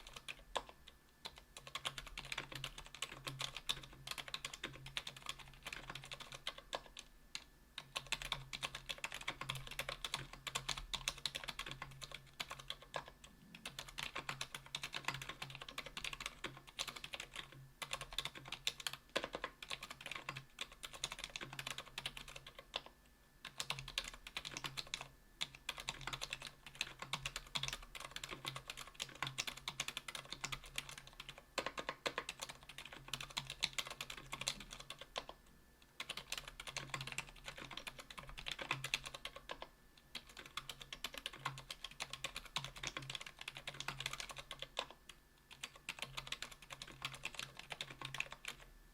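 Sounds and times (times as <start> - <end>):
typing on mechanical keyboard: 0.0 - 35.4, 36.0 - 48.7.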